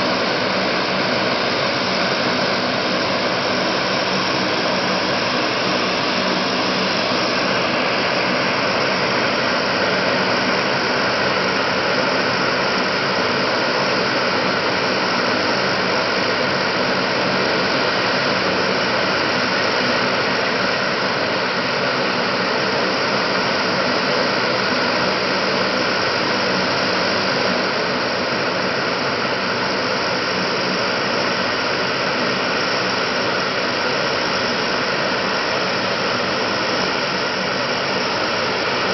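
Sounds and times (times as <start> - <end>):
turboprop engines running: 0.0 - 38.9.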